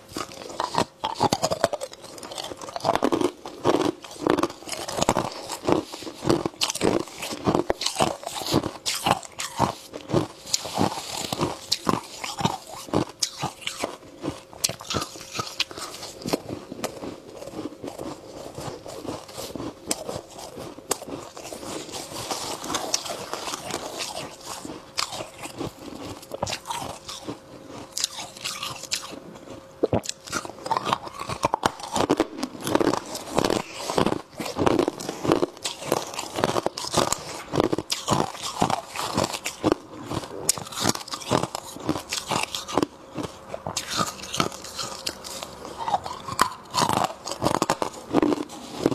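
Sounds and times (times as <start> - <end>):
person crunching frost: 0.0 - 48.9.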